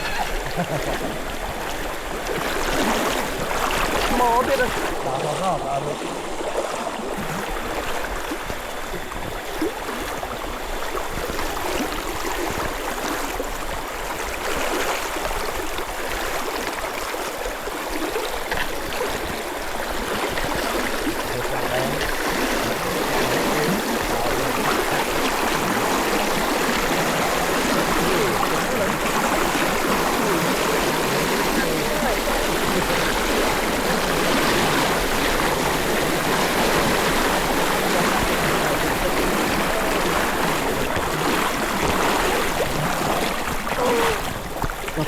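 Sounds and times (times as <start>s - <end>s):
flowing water rushing: 0.0s - 45.0s.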